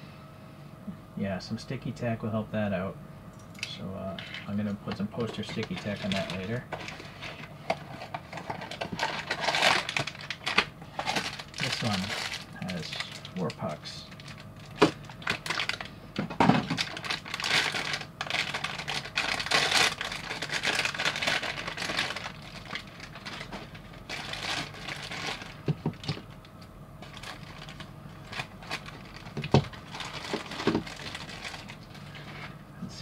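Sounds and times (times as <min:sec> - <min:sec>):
plastic bags crinkling: 0:05.0 - 0:15.9, 0:16.5 - 0:32.6.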